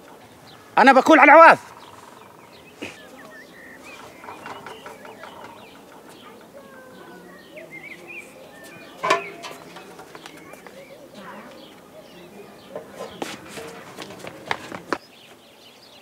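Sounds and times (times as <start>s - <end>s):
small birds chirping: 0.0s - 16.0s
chickens clucking: 1.6s - 15.1s.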